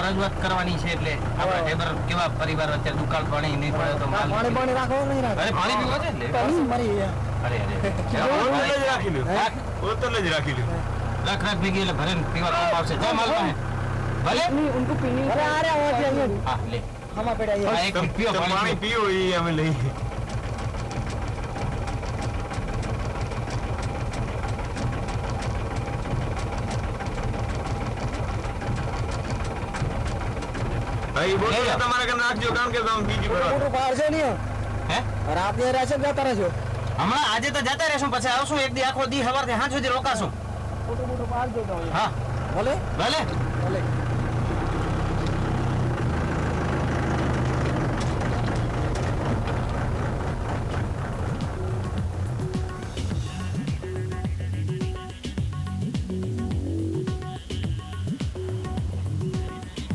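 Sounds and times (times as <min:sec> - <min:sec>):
engine idling with ticking clatter: 0:00.0 - 0:59.9.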